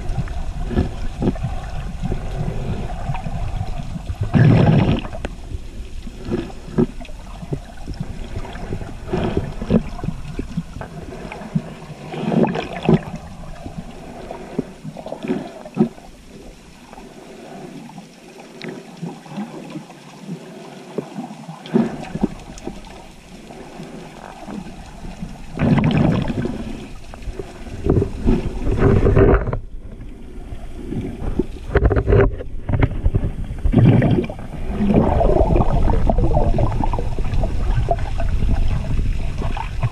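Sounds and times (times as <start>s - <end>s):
underwater sloshing and bubbling: 0.0s - 39.9s.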